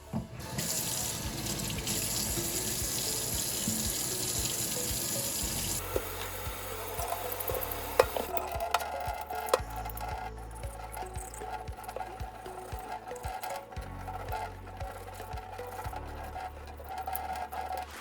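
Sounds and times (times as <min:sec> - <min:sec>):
faucet running water into sink: 0:00.4 - 0:18.0.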